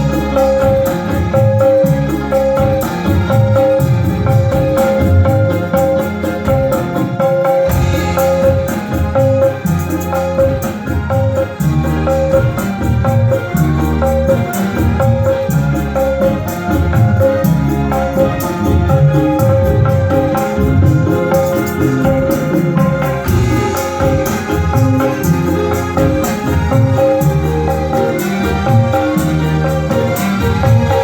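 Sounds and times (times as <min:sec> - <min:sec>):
bass line: 0:00.0 - 0:31.0
frame drums and jingles: 0:00.0 - 0:31.0
held keyboard notes: 0:00.0 - 0:31.0.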